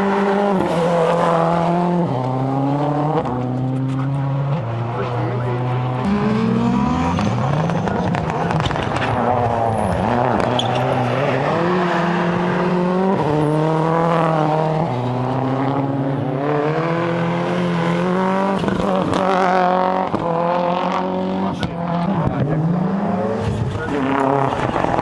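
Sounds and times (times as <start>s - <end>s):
rally car engine accelerating: 0.0s - 25.0s.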